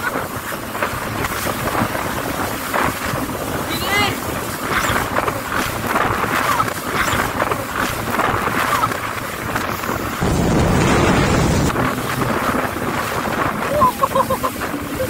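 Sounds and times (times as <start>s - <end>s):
deep rush of water spray: 0.0s - 15.0s
wind rushing over microphone: 0.0s - 15.0s.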